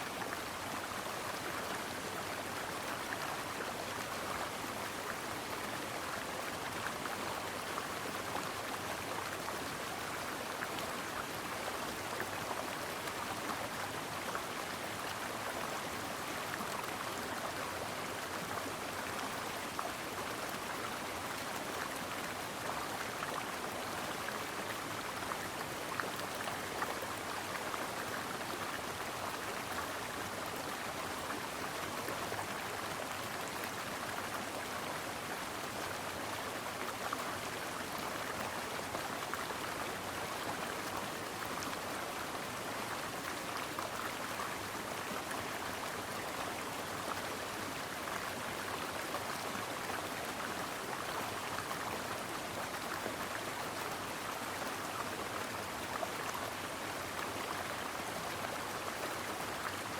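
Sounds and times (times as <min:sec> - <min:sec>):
brook water flowing over stones: 0:00.0 - 0:59.9.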